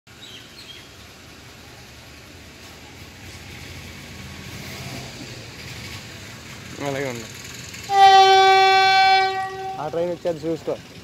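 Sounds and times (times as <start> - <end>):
vehicle engines rumbling: 0.1 - 11.0.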